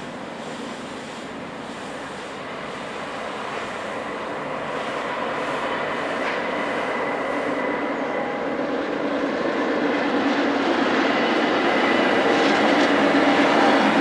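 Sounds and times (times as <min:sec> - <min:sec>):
running train rumble: 0:00.0 - 0:14.0
thin steady whine: 0:00.0 - 0:14.0.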